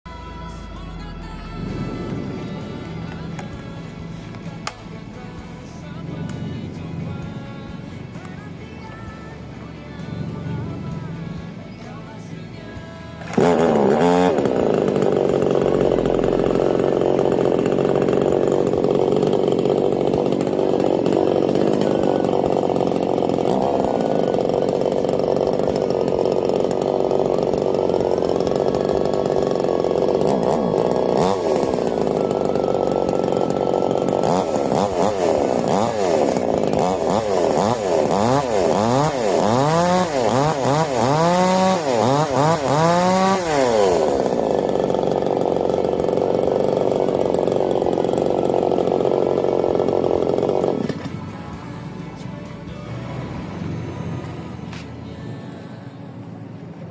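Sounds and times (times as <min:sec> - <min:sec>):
chainsaw engine revving: 0:00.1 - 0:55.6.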